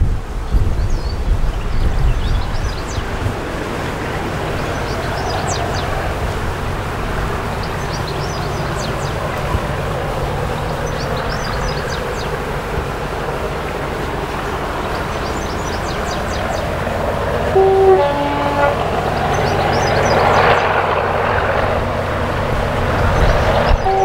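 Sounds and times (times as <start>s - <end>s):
distant diesel locomotive rumble: 0.0s - 24.0s
small birds chirping: 0.4s - 21.5s, 22.7s - 24.0s.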